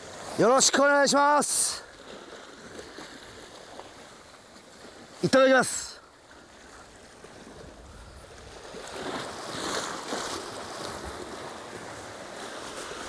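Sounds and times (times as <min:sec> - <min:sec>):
waves washing on rocky shore: 0:00.0 - 0:13.0
wind: 0:00.0 - 0:13.0.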